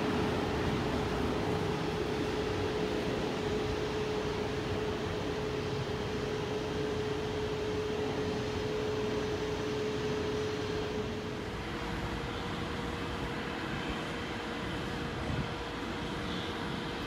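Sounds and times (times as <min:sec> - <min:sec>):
steady hum: 0:00.0 - 0:17.0
train pulling away rumbling: 0:00.0 - 0:17.0.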